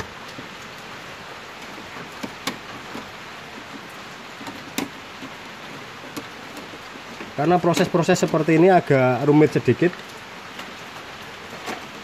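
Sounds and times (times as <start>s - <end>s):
light rain falling: 0.0s - 12.0s.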